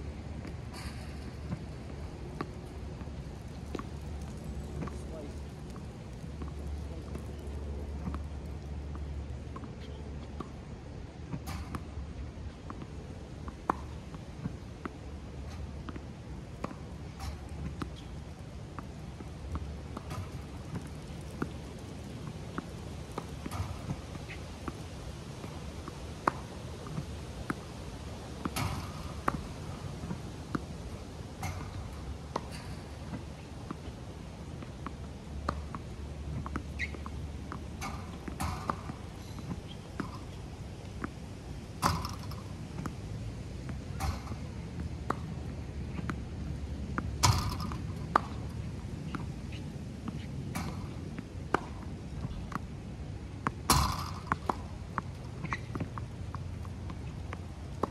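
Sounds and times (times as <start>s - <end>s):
balls bouncing on hard court: 0.4s - 10.6s, 11.2s - 57.9s
tennis balls struck with racket: 0.4s - 57.9s.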